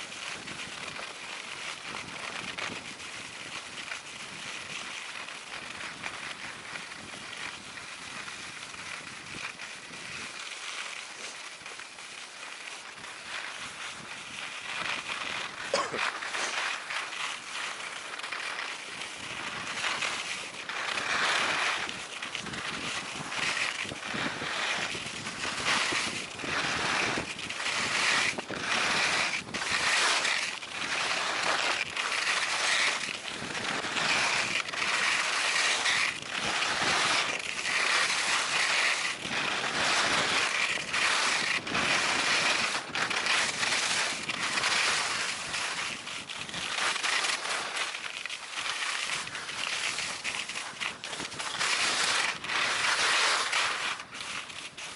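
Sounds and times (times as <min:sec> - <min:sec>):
skis scraping over packed snow: 0:00.0 - 0:54.9.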